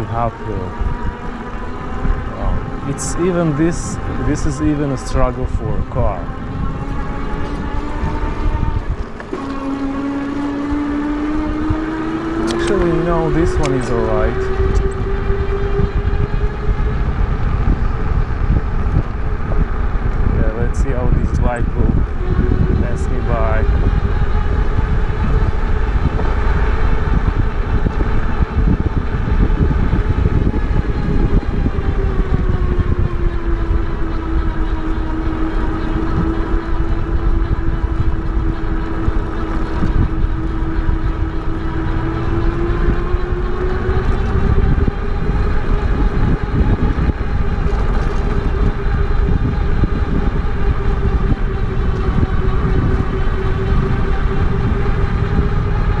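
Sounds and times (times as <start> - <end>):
low rumble: 0.0 - 10.0, 10.8 - 56.0
electric bike motor whining: 0.0 - 56.0.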